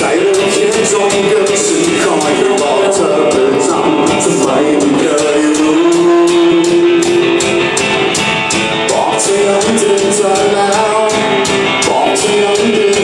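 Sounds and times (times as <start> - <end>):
drum beat: 0.0 - 13.0
electric guitars: 0.0 - 13.0
person singing: 0.0 - 13.0.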